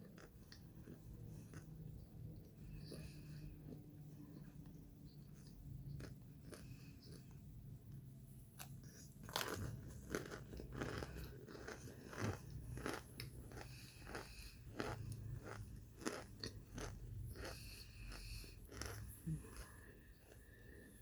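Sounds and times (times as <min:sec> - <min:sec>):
crunchy food being chewed: 0:00.0 - 0:21.0.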